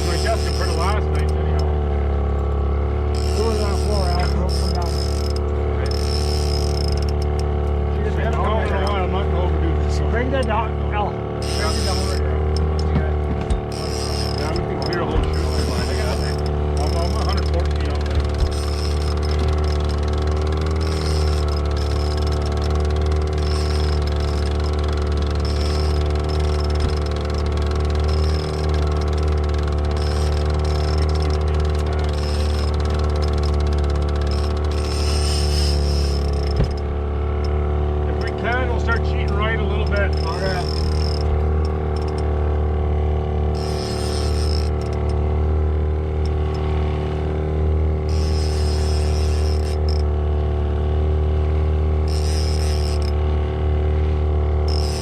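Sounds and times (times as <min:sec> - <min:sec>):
boat motor droning: 0:00.0 - 0:55.0.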